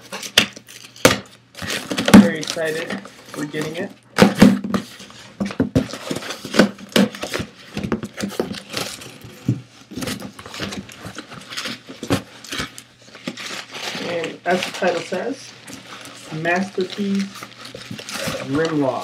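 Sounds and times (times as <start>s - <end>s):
cardboard flaps rustling and scraping: 1.6s - 19.0s.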